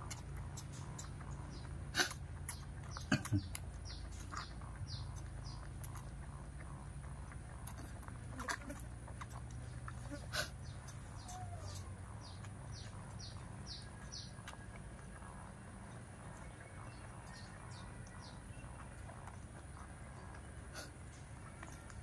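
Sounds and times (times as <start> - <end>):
low steady hum: 0.0 - 22.0
small bird chirping: 0.0 - 22.0.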